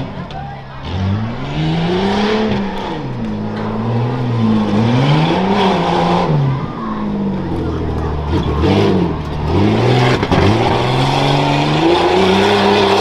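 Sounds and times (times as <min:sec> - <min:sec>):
race truck engine revving: 0:00.0 - 0:13.0.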